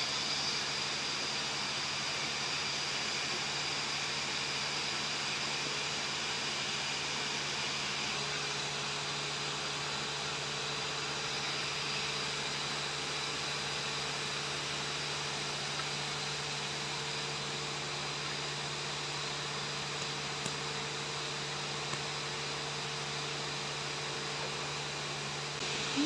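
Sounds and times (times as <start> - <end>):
machinery hum and hiss: 0.0 - 26.0.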